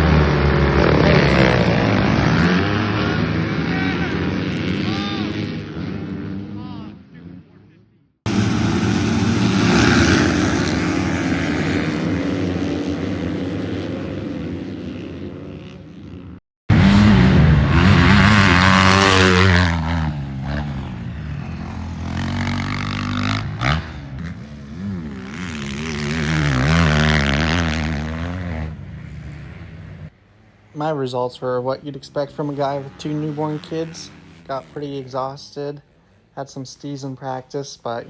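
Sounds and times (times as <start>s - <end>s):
dirt bike engine revving: 0.0s - 7.7s, 8.3s - 35.7s.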